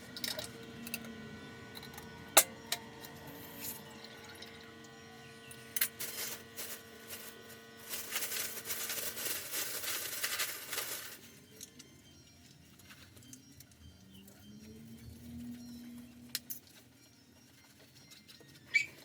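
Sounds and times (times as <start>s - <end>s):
steady hum: 0.0s - 18.4s.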